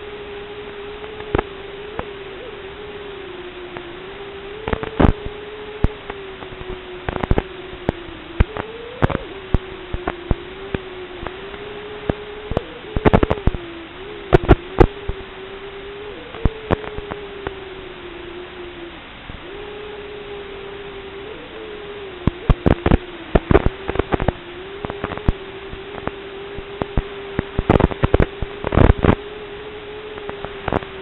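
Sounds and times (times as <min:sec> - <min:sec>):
sharp crackles and pops: 0:00.0 - 0:17.7, 0:19.7 - 0:31.0
static hiss: 0:00.0 - 0:31.0
wavering electronic hum: 0:00.0 - 0:31.0.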